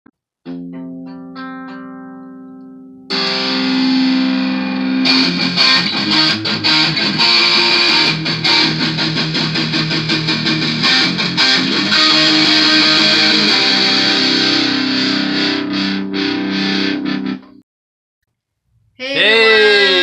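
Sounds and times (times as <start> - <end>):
clean guitar chord: 0.5 - 17.3
distorted electric guitar: 0.5 - 17.6.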